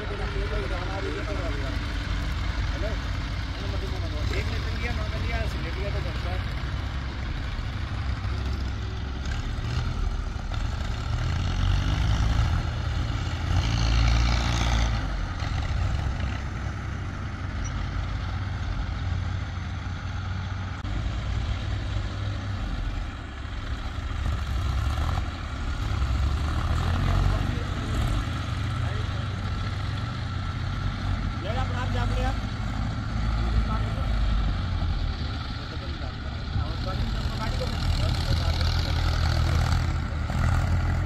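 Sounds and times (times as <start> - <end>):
heavy diesel engine revving: 0.0 - 41.0.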